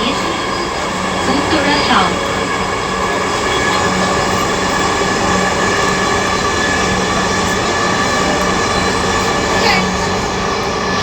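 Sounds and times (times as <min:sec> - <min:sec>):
motor whine: 0:00.0 - 0:11.0
train wheels rumbling on rails: 0:00.0 - 0:11.0.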